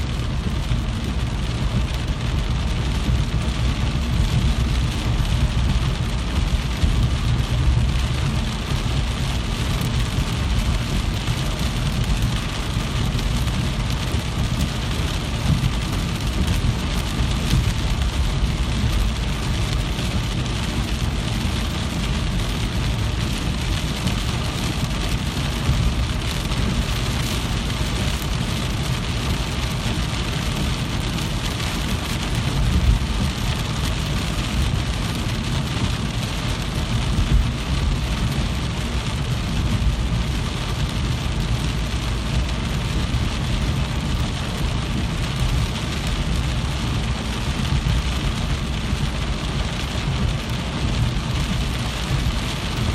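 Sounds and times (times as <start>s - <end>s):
low rumble: 0.0s - 52.9s
rain falling: 0.0s - 52.9s.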